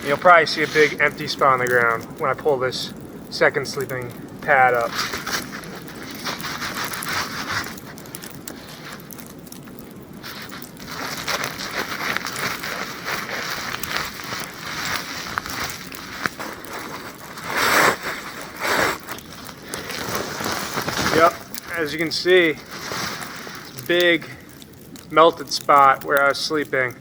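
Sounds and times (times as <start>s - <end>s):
sleeping pad rustling on snow: 0.0s - 2.0s, 4.5s - 25.4s.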